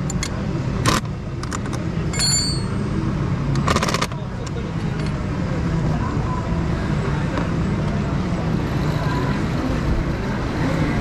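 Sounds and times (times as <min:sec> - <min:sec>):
kart engines droning: 0:00.2 - 0:11.0.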